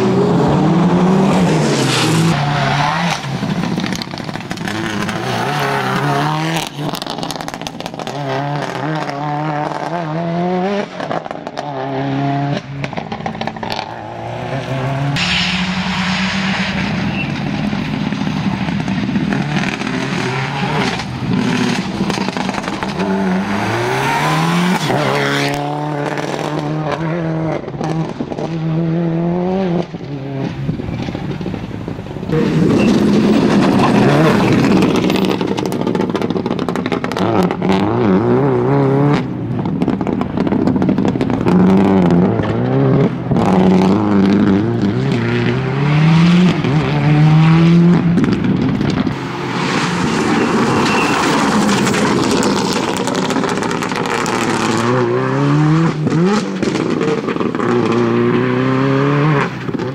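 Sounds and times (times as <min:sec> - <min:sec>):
rally car engine revving hard: 0:00.0 - 0:30.6, 0:32.3 - 0:59.9.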